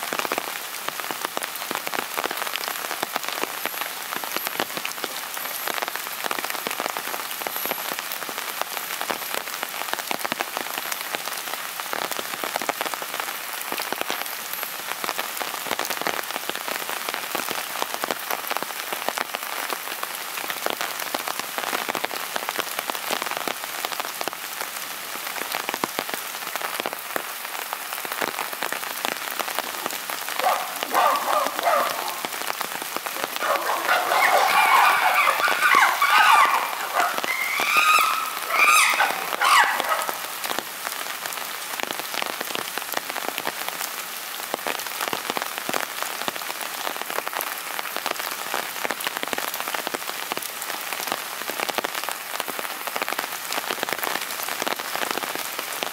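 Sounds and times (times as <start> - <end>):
rain falling: 0.0 - 55.9
raindrops hitting nearby: 0.0 - 55.9.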